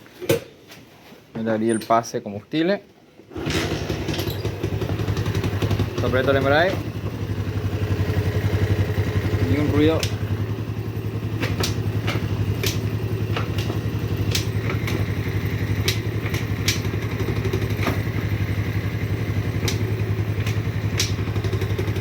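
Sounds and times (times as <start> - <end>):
motorcycle engine idling: 3.6 - 22.0.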